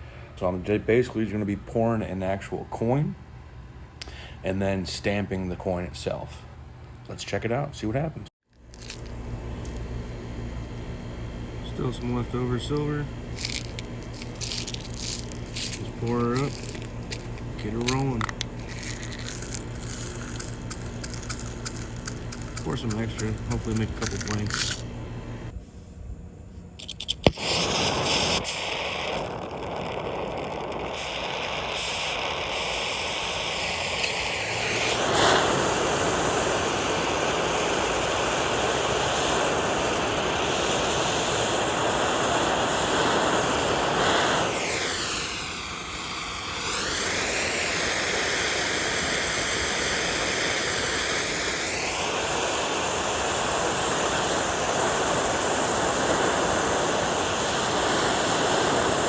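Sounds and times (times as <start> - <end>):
gas burner flame rushing: 9.0 - 25.9, 27.2 - 59.0.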